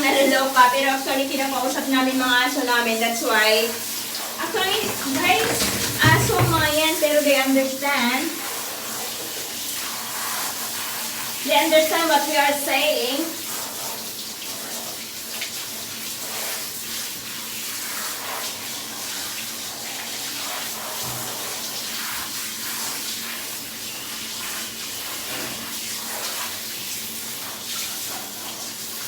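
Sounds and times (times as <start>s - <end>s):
water running into bathtub: 0.0s - 29.0s.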